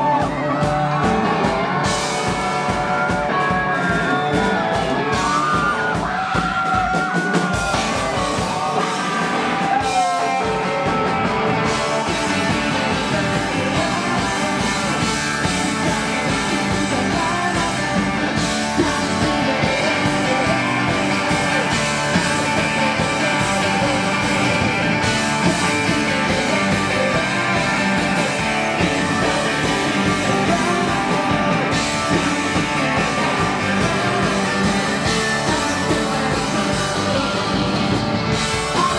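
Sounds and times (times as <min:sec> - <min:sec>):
bass guitar: 0:00.0 - 0:38.9
drums: 0:00.0 - 0:38.9
electric guitar: 0:00.0 - 0:38.9.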